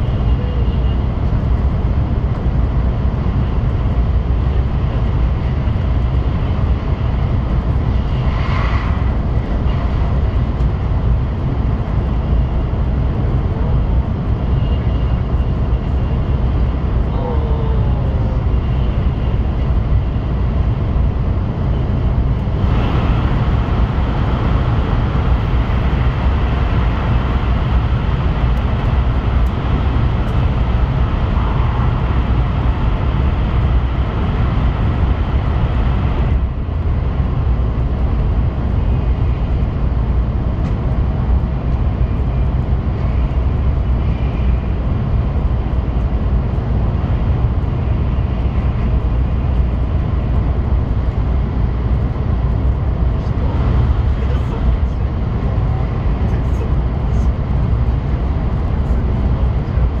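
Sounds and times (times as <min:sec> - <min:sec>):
train cabin rumble with rushing hiss: 0:00.0 - 1:00.0.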